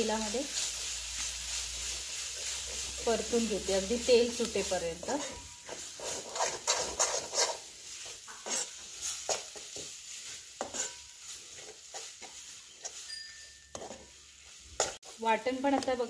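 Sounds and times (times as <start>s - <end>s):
metal spoon scraping a pan: 0.0s - 15.9s
paste sizzling in oil: 0.0s - 16.0s.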